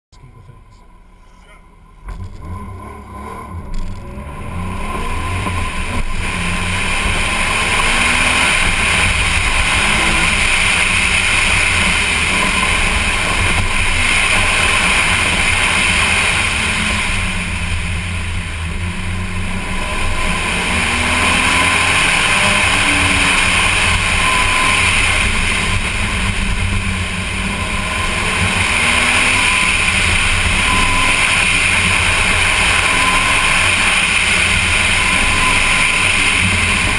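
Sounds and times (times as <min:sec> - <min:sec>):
car engine accelerating hard: 0:00.1 - 0:36.9.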